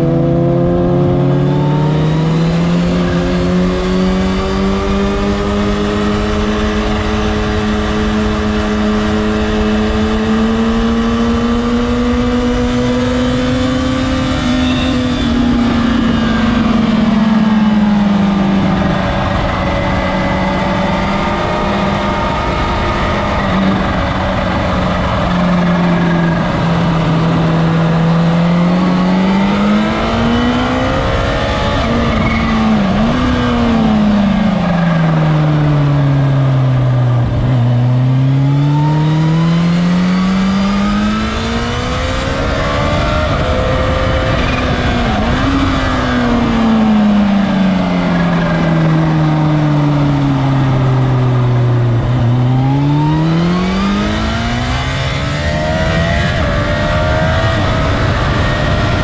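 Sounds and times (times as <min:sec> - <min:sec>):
sport motorcycle engine revving: 0:00.0 - 0:59.0.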